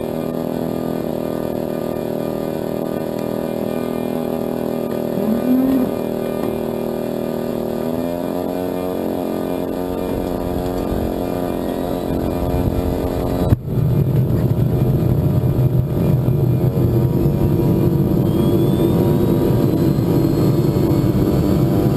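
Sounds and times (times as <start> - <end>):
turbine engine whine: 0.0 - 21.9
turbine rushing noise: 0.0 - 21.9.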